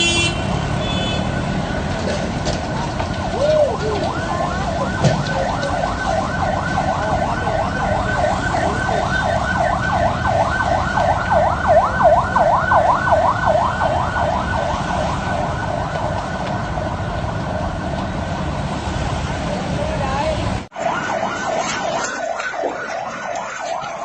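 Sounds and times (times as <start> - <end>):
siren yelping: 3.1 - 19.3, 20.7 - 24.0.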